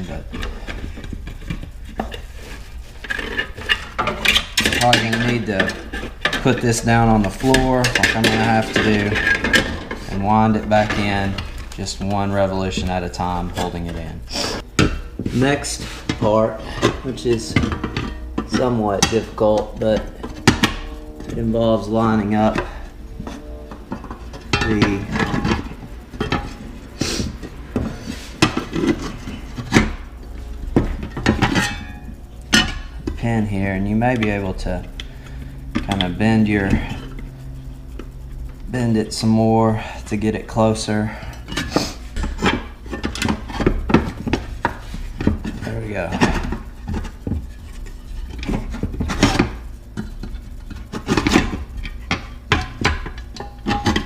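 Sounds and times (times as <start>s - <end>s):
metal parts clinking: 0.0s - 54.0s.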